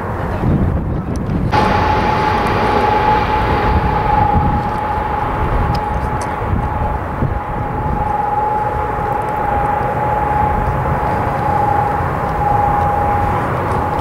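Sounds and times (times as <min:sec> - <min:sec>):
turboprop engine whine: 0:01.4 - 0:14.0
low rumble: 0:01.5 - 0:14.0.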